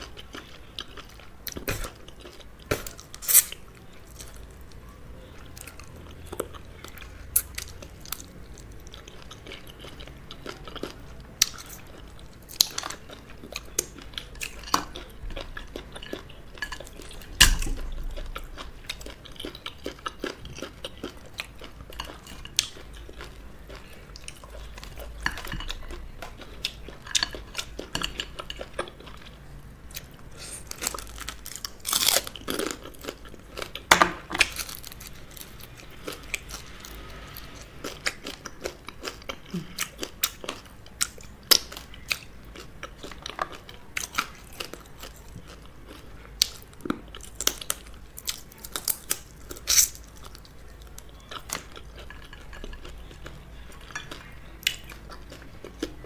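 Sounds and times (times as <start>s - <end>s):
chewing and crunching crab shell: 0.0s - 56.0s.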